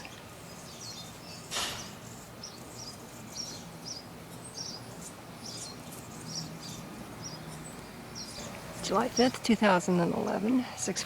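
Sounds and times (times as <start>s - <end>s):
faint background noise: 0.0s - 11.0s
small birds chirping: 0.0s - 11.0s.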